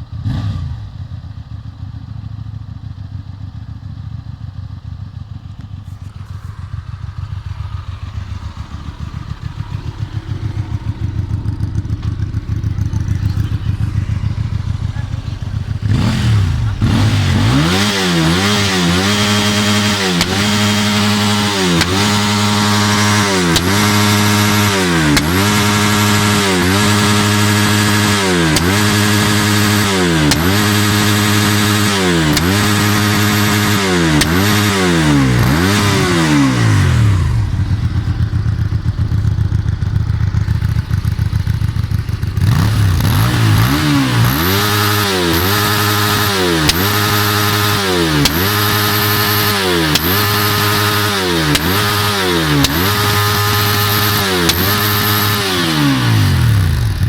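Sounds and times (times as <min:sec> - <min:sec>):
vehicle engine revving: 0:00.0 - 0:01.5, 0:04.8 - 0:57.0
engine idling: 0:00.8 - 0:57.0.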